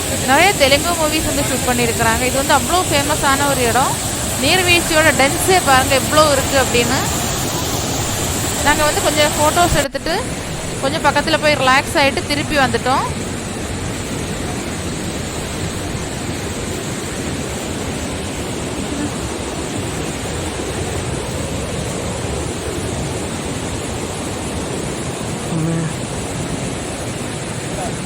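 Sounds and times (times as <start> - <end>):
large waterfall rushing: 0.0 - 28.0.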